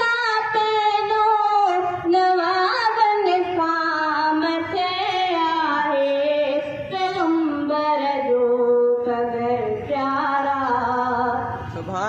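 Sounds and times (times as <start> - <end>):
boy singing: 0.0 - 11.6.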